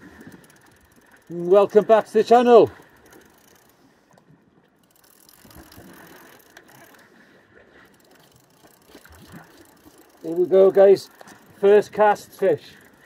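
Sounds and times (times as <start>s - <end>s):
fishing reel whirring: 0.0s - 4.2s, 4.8s - 13.0s
reel gears clicking: 0.1s - 4.2s, 4.8s - 7.2s, 7.8s - 13.0s.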